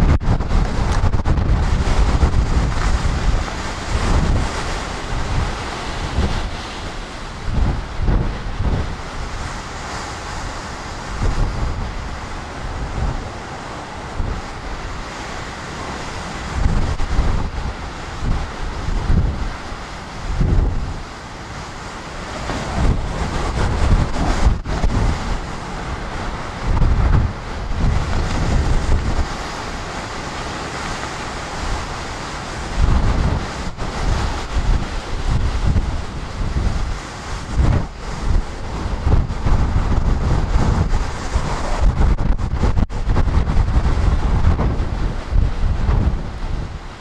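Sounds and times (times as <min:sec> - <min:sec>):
storm wind rushing through trees: 0:00.0 - 0:47.0
wind buffeting microphone: 0:00.0 - 0:47.0.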